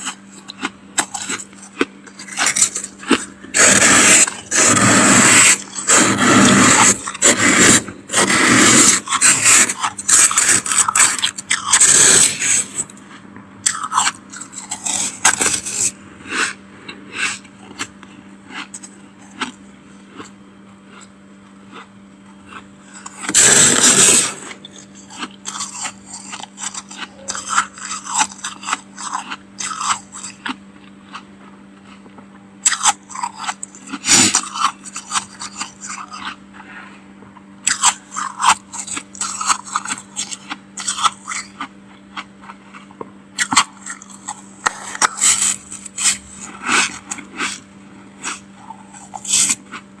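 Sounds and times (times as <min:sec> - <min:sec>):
spoon scraping freezer frost: 0:00.0 - 0:13.0, 0:13.6 - 0:16.6, 0:21.7 - 0:31.2, 0:32.6 - 0:36.4, 0:37.6 - 0:49.9
steady low hum: 0:00.0 - 0:50.0.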